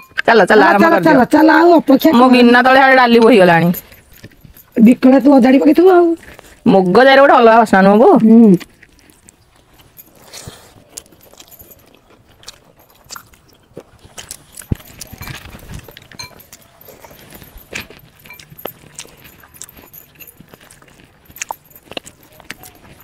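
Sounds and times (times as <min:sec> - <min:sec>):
person chewing food: 0:02.2 - 0:06.7, 0:08.0 - 0:23.0.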